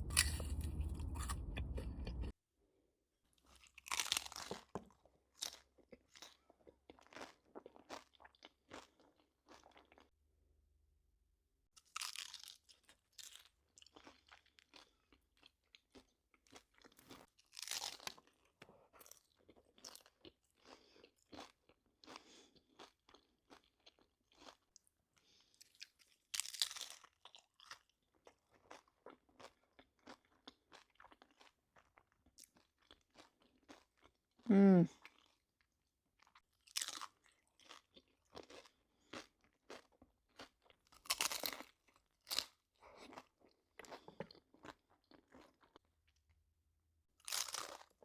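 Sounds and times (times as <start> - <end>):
person chewing crunchy food: 0.0 - 2.4, 3.4 - 10.1, 11.8 - 46.2, 47.1 - 48.0.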